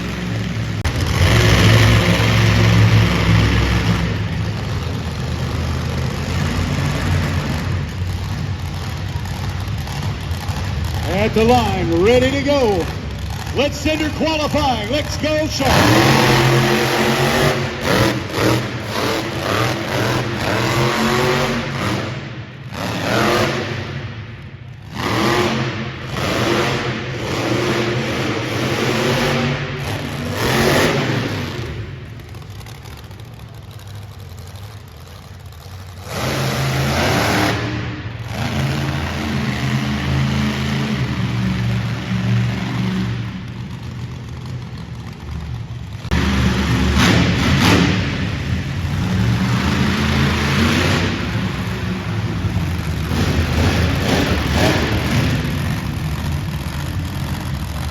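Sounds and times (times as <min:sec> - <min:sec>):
monster truck engine revving: 0:00.0 - 0:57.9.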